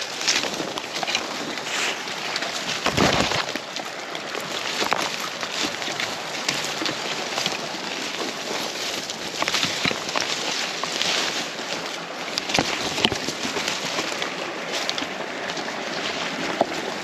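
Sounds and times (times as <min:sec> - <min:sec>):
footsteps crunching dry leaves: 0:00.0 - 0:17.0.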